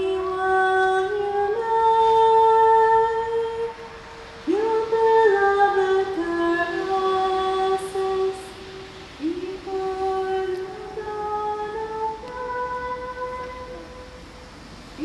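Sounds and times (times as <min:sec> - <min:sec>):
woman singing slow melody: 0:00.0 - 0:15.0.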